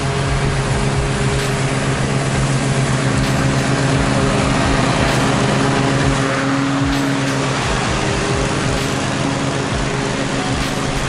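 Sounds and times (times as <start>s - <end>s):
riding mower engine running: 0.0s - 11.0s.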